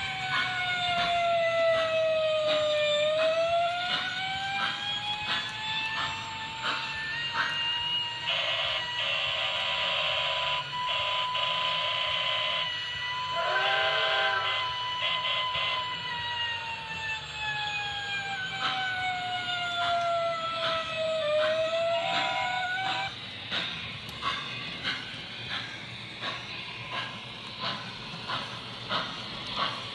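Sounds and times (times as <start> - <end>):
fire siren winding: 0.0 - 29.9.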